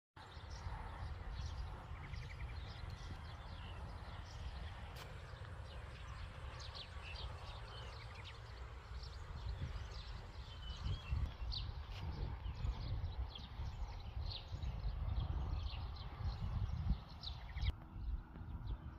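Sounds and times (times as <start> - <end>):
small birds chirping: 0.2 - 18.9
steady low rumble: 0.2 - 18.9.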